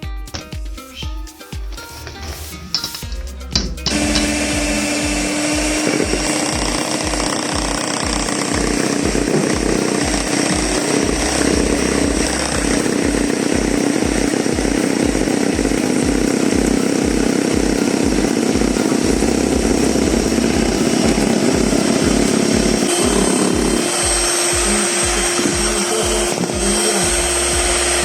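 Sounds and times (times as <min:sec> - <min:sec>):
background music with steady beat: 0:00.0 - 0:28.0
electric blender whirring: 0:03.9 - 0:28.0.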